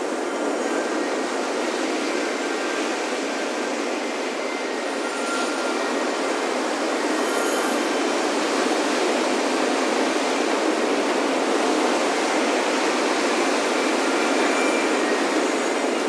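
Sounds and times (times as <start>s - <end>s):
ocean surf washing on beach: 0.0s - 16.0s.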